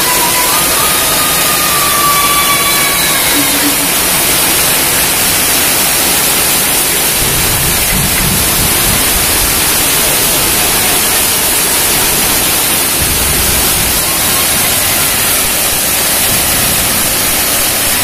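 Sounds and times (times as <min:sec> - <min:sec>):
heavy rain on roof tiles: 0:00.0 - 0:18.0.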